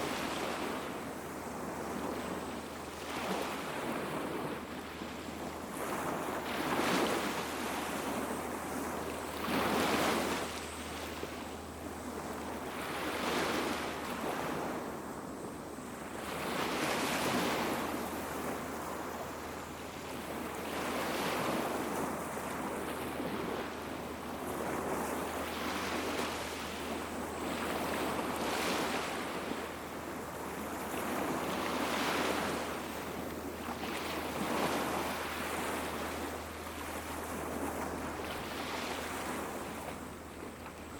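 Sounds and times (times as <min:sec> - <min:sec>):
small waves washing onto beach: 0:00.0 - 0:40.9.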